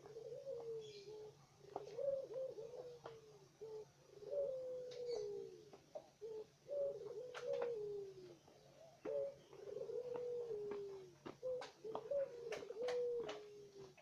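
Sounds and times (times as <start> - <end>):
collared dove cooing: 0.0 - 14.0.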